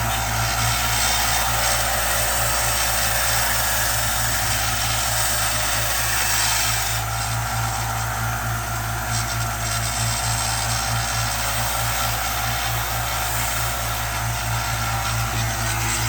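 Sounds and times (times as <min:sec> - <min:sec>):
electric sander grinding: 0:00.0 - 0:16.0.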